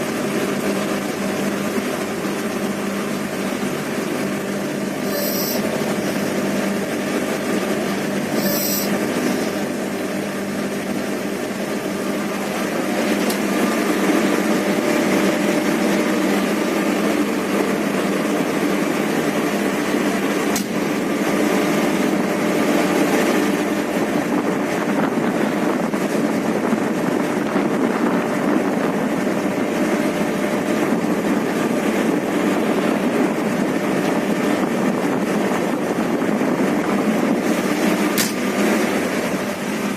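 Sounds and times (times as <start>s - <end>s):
train engine and wheels running: 0.0s - 39.9s.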